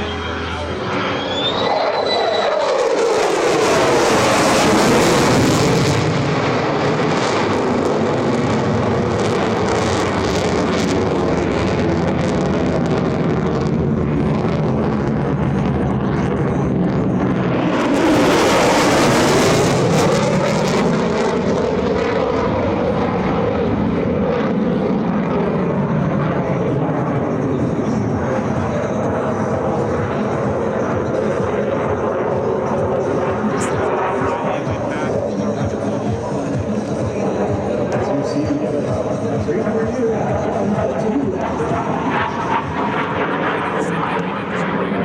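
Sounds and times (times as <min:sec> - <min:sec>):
jet fighter flying by: 0:00.0 - 0:45.0.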